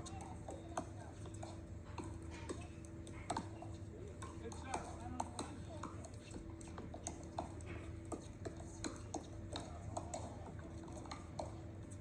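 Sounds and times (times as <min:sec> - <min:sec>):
faint steady hum: 0:00.0 - 0:12.0
paddles hitting plastic ball: 0:00.0 - 0:12.0.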